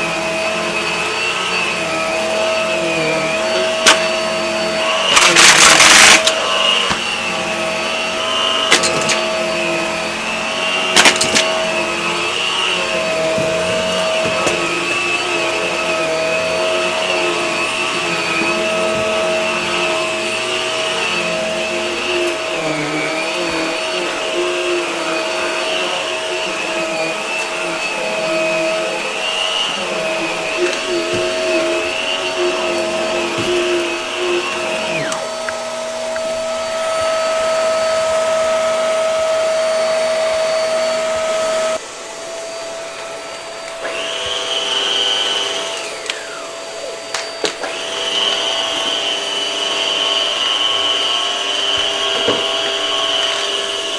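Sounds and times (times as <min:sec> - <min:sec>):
vacuum cleaner motor whine: 0:00.0 - 0:53.9.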